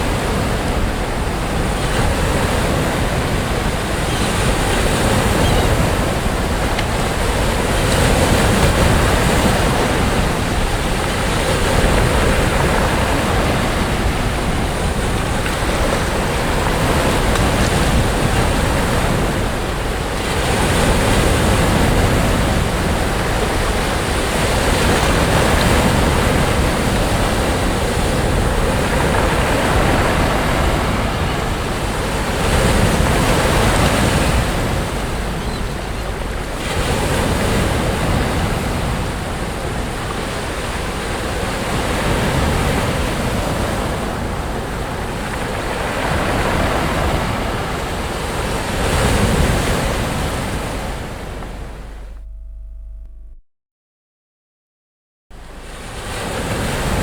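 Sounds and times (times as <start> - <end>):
sea waves breaking: 0.0 - 52.6, 55.4 - 57.0
wind rumble on microphone: 0.0 - 53.4.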